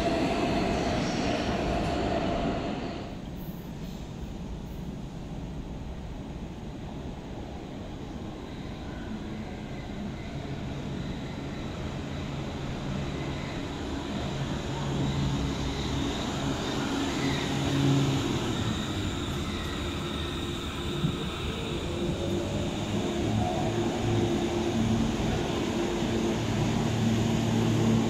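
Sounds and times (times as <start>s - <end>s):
electric train rumble and hum: 0.0s - 28.0s.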